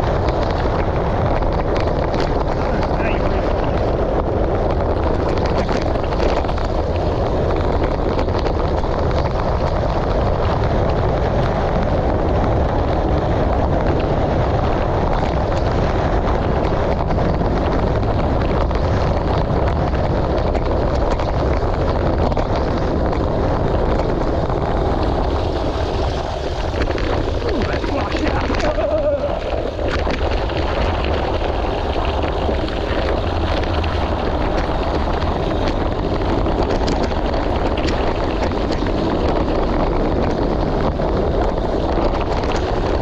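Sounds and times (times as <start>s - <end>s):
low rumble: 0.0s - 43.0s
wind rushing over microphone: 0.0s - 43.0s.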